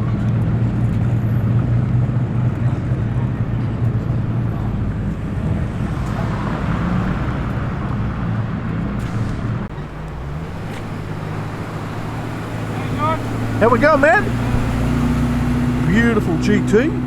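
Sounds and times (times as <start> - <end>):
car engine passing slowly: 0.0 - 17.0.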